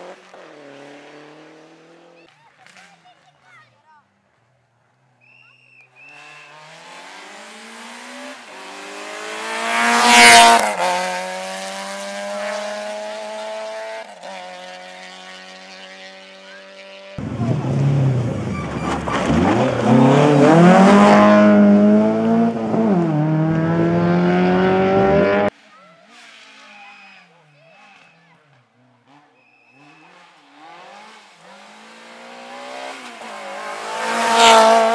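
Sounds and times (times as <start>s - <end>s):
rally car revving through gears: 0.0s - 2.9s, 6.0s - 25.5s, 27.8s - 34.9s
rally car passing by: 6.0s - 27.0s, 27.7s - 34.9s.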